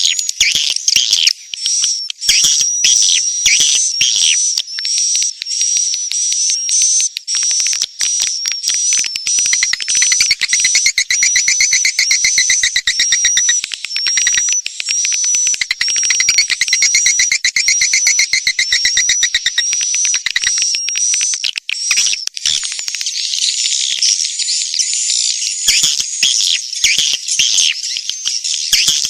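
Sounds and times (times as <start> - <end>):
clicking bird twitters: 0.0 - 29.0
high bird chirps: 0.0 - 29.0.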